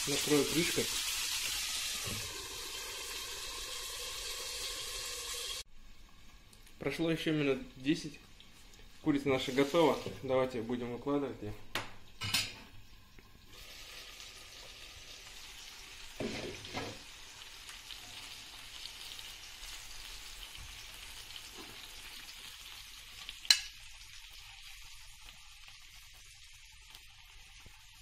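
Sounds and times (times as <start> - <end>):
chicken sizzling in oil: 0.0 - 5.7, 8.0 - 10.3, 13.4 - 28.0.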